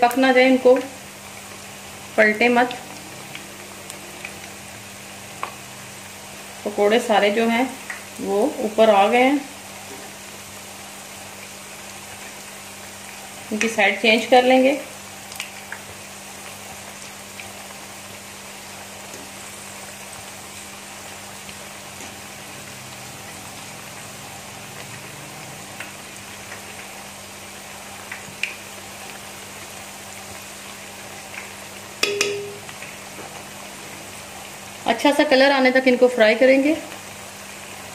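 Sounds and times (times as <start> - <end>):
oil sizzling and bubbling: 0.0 - 37.9.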